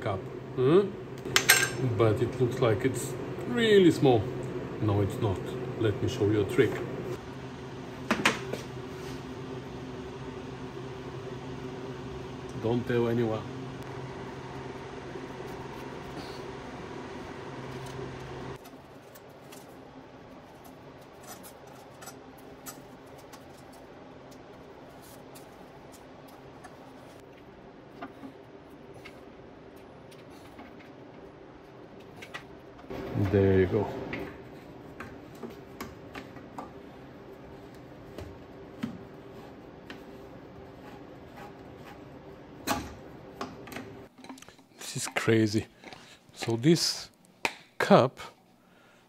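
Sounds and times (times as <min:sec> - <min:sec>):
machine hum: 0:00.0 - 0:45.0.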